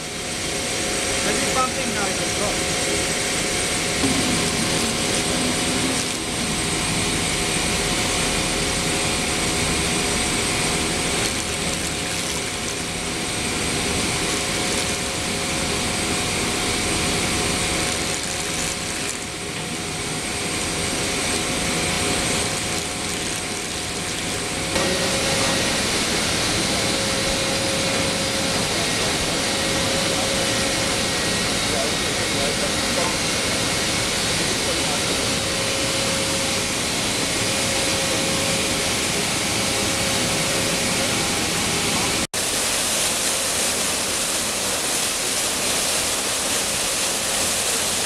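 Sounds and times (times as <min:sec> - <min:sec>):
pump humming: 0:00.0 - 0:48.0.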